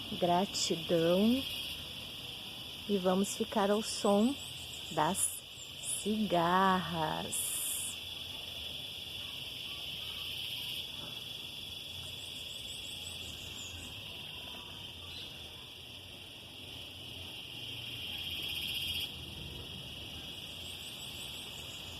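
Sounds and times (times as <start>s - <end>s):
cicadas buzzing: 0.0s - 21.9s.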